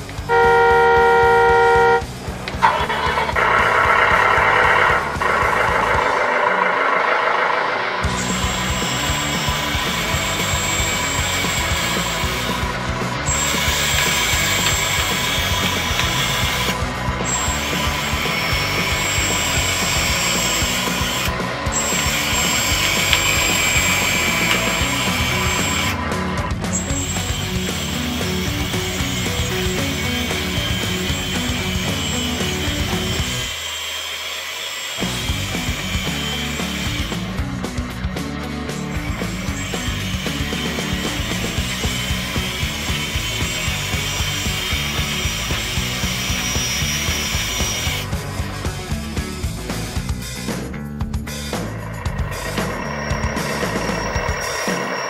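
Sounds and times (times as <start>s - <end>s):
background music with steady beat: 0.0s - 6.4s, 7.9s - 33.6s, 35.0s - 55.0s
electric motor and gearbox whirring: 0.0s - 55.0s.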